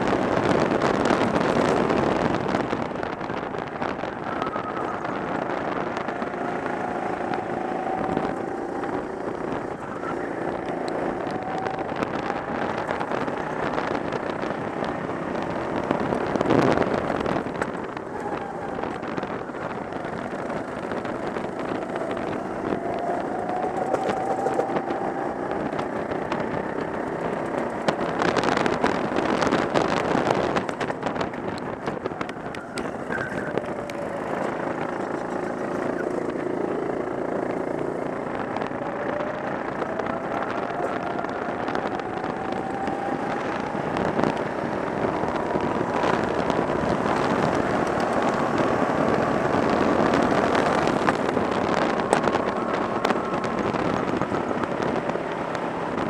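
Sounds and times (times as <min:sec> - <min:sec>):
go-kart engine accelerating: 0:00.0 - 0:56.0
wind noise on microphone: 0:00.0 - 0:56.0.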